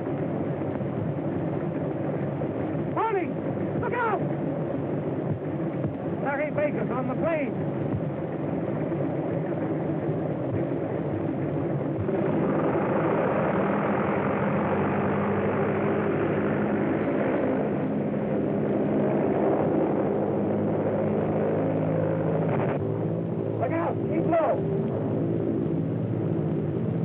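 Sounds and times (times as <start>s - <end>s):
propeller airplane engines droning: 0.0s - 27.0s.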